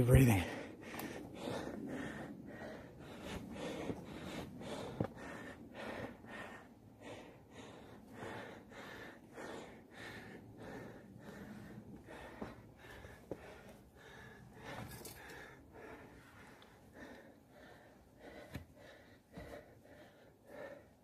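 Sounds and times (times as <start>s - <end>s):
heavy breathing: 0.0s - 21.0s.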